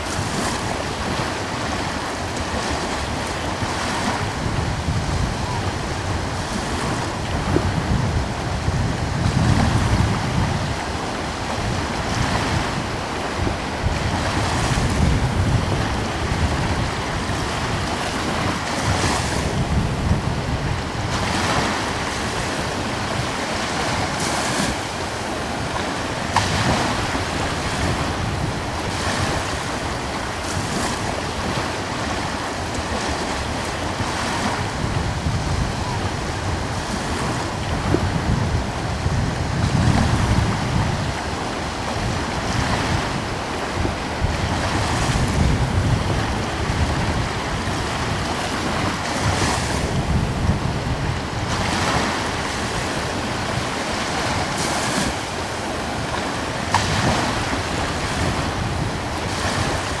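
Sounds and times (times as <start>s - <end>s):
ocean waves washing: 0.0s - 60.0s
wind on microphone: 0.0s - 60.0s.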